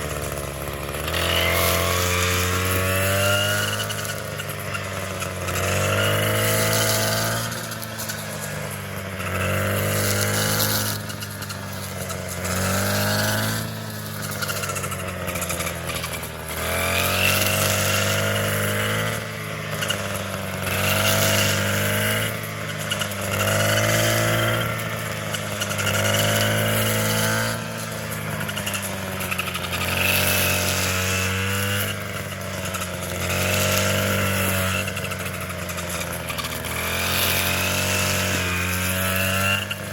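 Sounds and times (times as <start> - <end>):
small petrol engine revving: 0.0 - 39.9.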